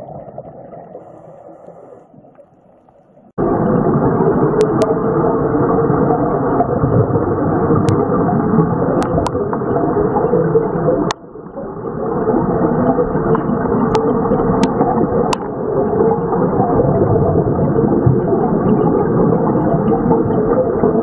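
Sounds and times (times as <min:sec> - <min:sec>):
underwater gas bubbling rumble: 0:00.0 - 0:21.0.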